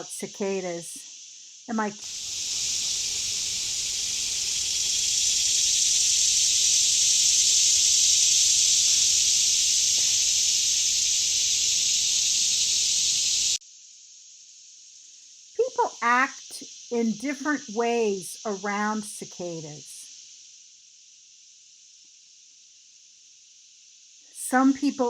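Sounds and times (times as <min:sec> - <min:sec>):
cicadas singing: 0:00.0 - 0:25.0.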